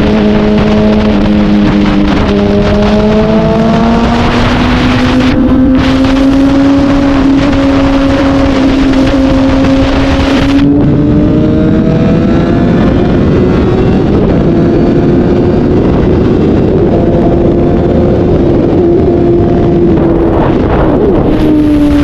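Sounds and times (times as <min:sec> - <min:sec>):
motorcycle engine at high revs: 0:00.0 - 0:22.0.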